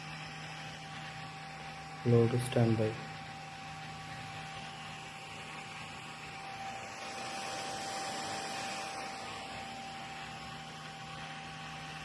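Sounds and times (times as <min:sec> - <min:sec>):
low electrical hum: 0:00.0 - 0:12.0
small cooling fan whirring: 0:00.0 - 0:12.0
thin steady whine: 0:00.0 - 0:12.0.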